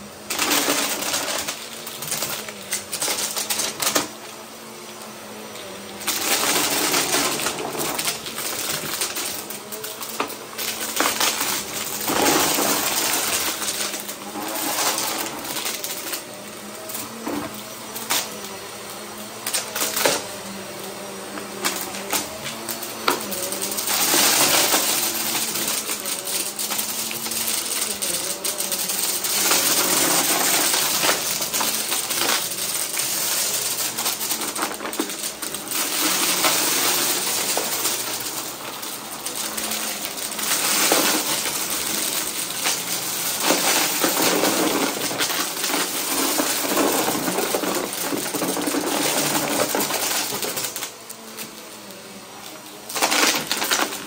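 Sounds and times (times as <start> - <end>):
vacuum cleaner running on carpet: 0.0 - 54.0
debris rattling in dust bin: 0.2 - 4.4, 5.8 - 51.7, 52.4 - 54.0.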